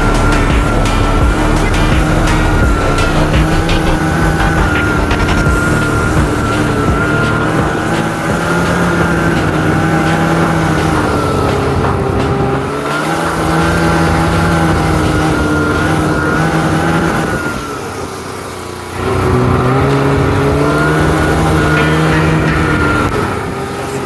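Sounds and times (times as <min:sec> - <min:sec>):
snowmobile engine under throttle: 0:00.0 - 0:24.0.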